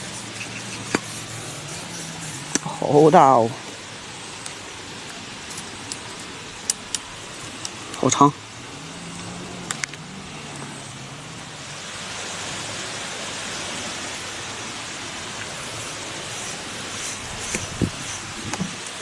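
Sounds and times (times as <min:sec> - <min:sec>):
steady wind hiss: 0:00.0 - 0:19.0.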